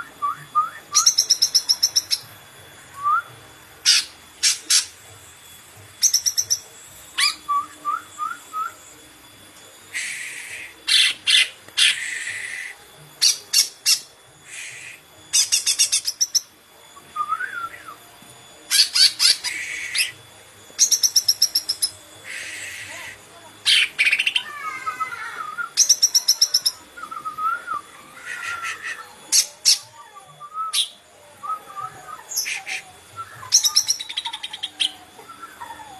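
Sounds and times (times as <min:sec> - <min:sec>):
rising bird whistles: 0:00.0 - 0:02.3, 0:02.9 - 0:05.0, 0:06.0 - 0:09.0, 0:09.9 - 0:18.0, 0:18.7 - 0:20.2, 0:23.7 - 0:35.9
bird singing sharp buzzy notes: 0:00.0 - 0:05.1, 0:06.0 - 0:09.0, 0:09.8 - 0:35.8.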